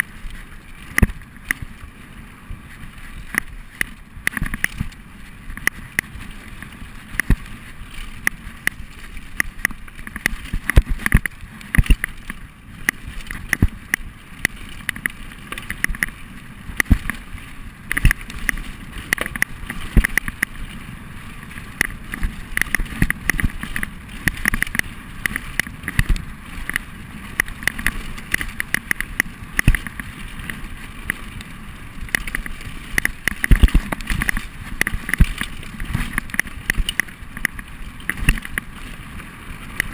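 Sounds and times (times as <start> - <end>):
bike knocking and rattling: 0.0 - 39.9.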